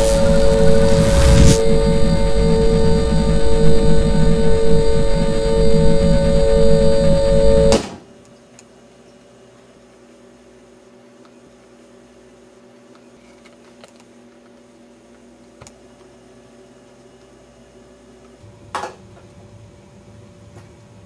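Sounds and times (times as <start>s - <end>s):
room tone hum: 0.0s - 21.0s.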